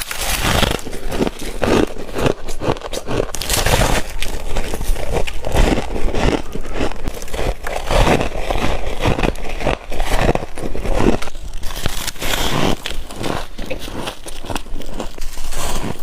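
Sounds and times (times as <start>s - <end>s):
teeth crunching frost: 0.0s - 16.0s.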